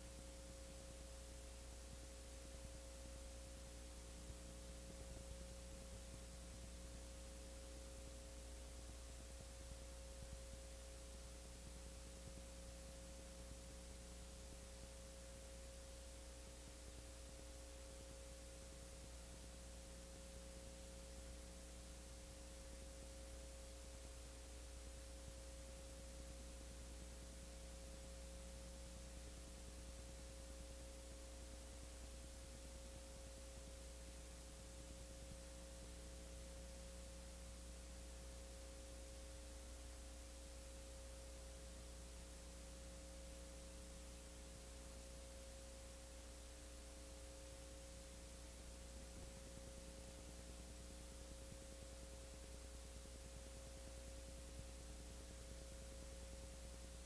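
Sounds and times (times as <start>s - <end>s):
electrical hum: 0.0s - 57.0s
faint steady tone: 0.0s - 57.0s.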